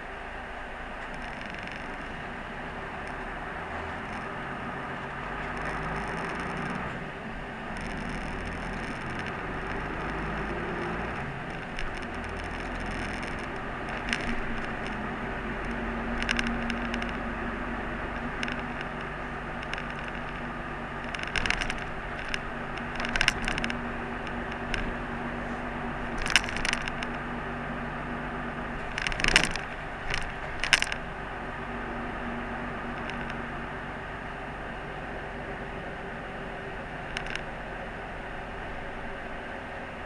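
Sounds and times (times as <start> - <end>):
bus engine hum: 0.0 - 40.0
road noise: 0.0 - 40.0
rattles and clacks in cabin: 0.9 - 33.7.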